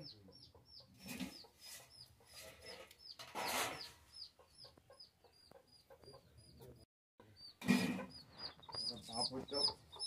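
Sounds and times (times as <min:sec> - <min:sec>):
chickens clucking: 0:00.0 - 0:10.0
chicks peeping: 0:00.0 - 0:10.0.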